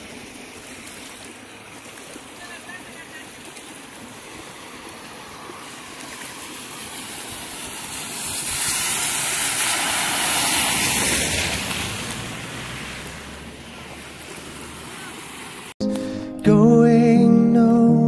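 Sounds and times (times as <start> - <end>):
car tyres hissing through water: 0.0 - 15.8
rushing floodwater: 0.0 - 15.8.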